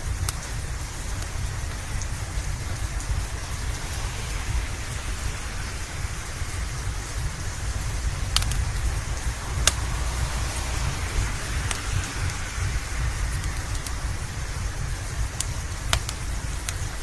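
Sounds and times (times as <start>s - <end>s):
deep rumble: 0.0s - 17.0s
steady rain: 0.0s - 17.0s
wood fire crackling pops: 0.0s - 17.0s.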